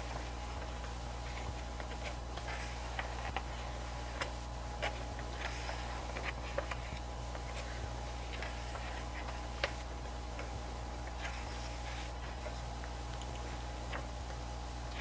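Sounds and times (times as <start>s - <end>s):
pages being turned: 0.0s - 14.2s
low background hum: 0.0s - 15.0s.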